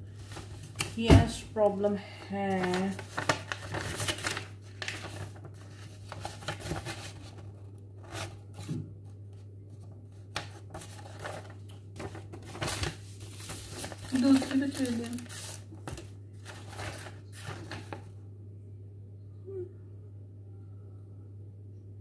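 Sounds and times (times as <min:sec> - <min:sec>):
paper rustling: 0:00.0 - 0:18.1
steady low hum: 0:00.0 - 0:22.0.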